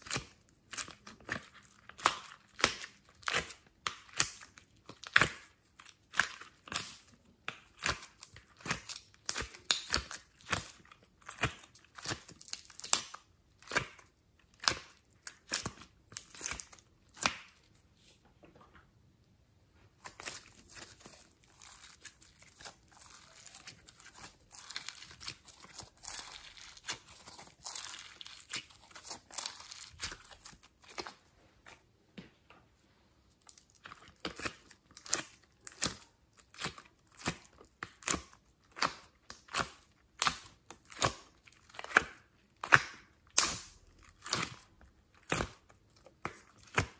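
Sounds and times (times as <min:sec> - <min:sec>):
slime squishing and popping: 0:00.0 - 0:17.7, 0:20.0 - 0:31.2, 0:33.4 - 0:46.9.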